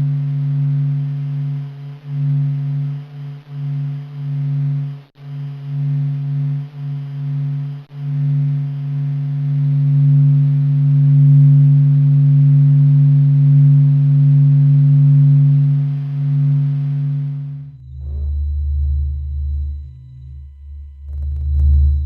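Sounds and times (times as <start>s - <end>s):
low droning hum: 0.0s - 22.0s.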